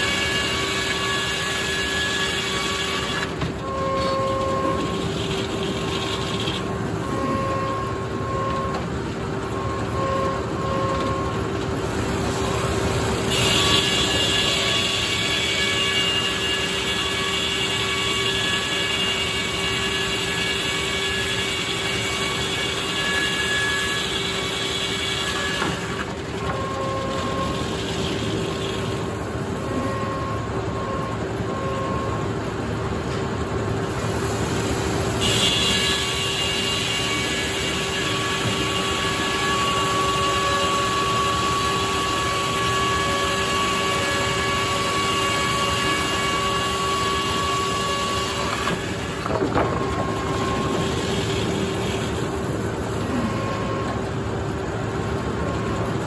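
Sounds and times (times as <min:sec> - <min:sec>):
circular saw cutting log: 0:00.0 - 0:32.1, 0:34.9 - 0:56.0.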